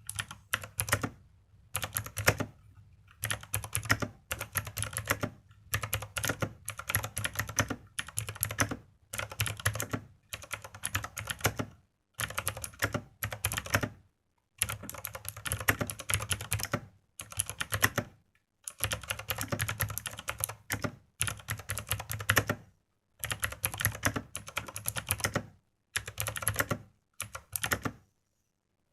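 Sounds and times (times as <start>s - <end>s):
mechanical keyboard typing: 0.0s - 14.0s, 14.6s - 22.6s, 23.2s - 28.0s.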